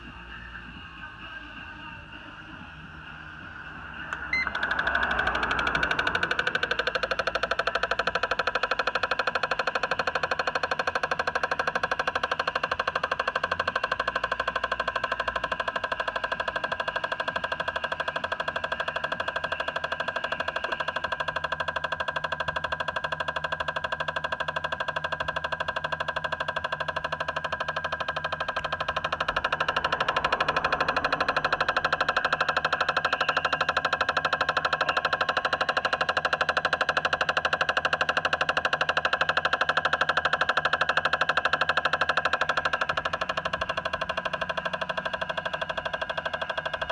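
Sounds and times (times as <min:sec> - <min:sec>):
car engine running: 0:00.0 - 0:46.9
held tones: 0:00.0 - 0:46.9.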